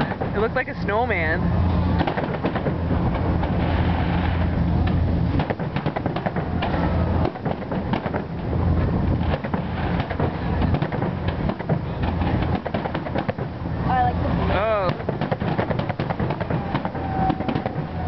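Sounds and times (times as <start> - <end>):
fireworks bangs and crackles: 0.0 - 13.7, 14.5 - 18.0
low rumble: 0.0 - 18.0.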